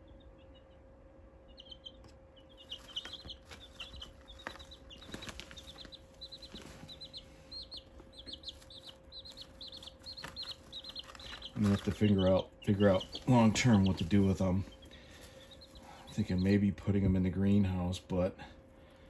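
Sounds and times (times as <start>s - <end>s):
chicks peeping: 0.0s - 19.0s
faint steady hum: 0.0s - 19.0s.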